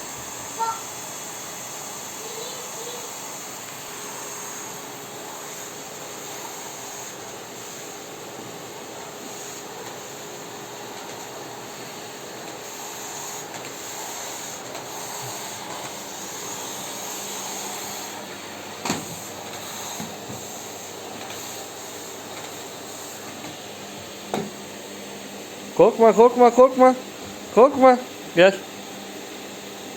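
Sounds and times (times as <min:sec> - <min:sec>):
vacuum cleaner whirring: 0:00.0 - 0:29.9.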